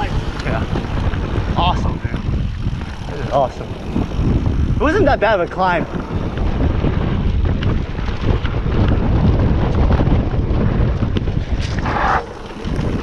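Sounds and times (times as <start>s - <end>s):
mountain bike rattling on dirt: 0.0s - 13.0s
wind on microphone: 0.0s - 13.0s.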